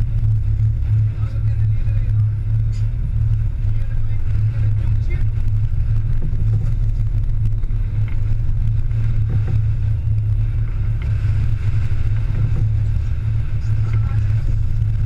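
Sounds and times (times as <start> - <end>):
boat engines droning: 0.0 - 15.0
water noise: 0.0 - 15.0
wind: 0.0 - 15.0.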